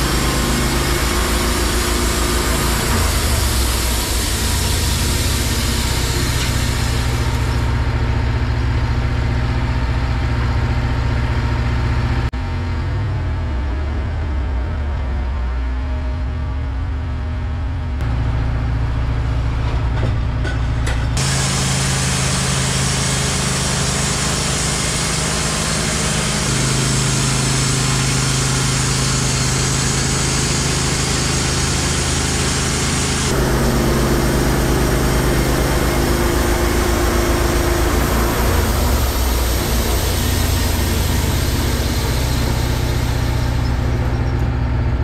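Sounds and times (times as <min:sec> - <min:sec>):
bandsaw mill engine running: 0:00.0 - 0:16.4, 0:17.8 - 0:45.0.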